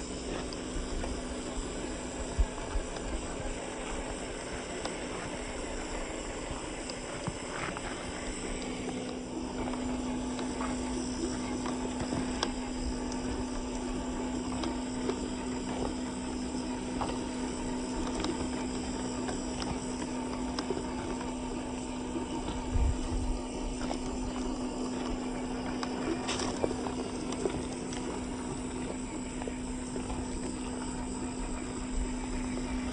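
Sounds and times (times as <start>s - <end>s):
electric motor of toy car: 0.0s - 32.9s.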